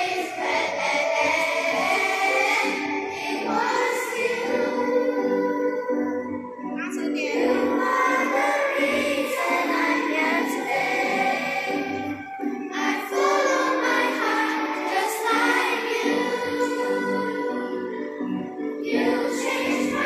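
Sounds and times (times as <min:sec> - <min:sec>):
backing music: 0:00.0 - 0:20.0
children singing together: 0:00.0 - 0:20.0.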